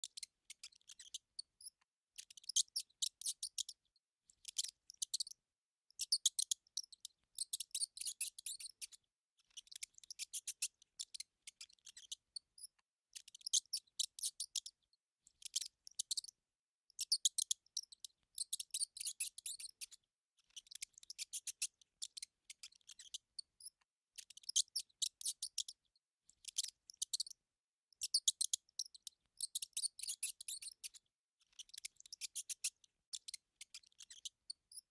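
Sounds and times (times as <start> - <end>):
mouse squeaky clicks: 0.0 - 34.9.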